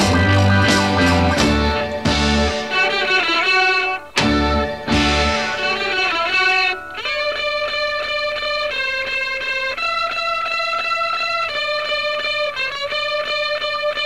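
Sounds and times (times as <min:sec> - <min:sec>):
electric guitar riff in rock music: 0:00.0 - 0:14.0.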